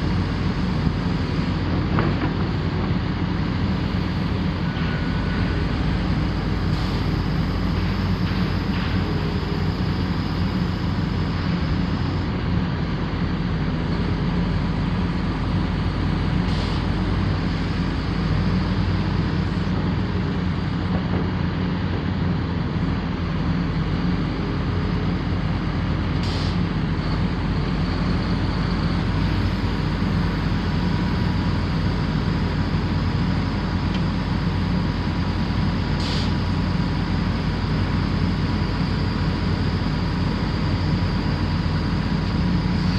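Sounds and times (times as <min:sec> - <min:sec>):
excavator diesel engine humming: 0:00.0 - 0:42.9.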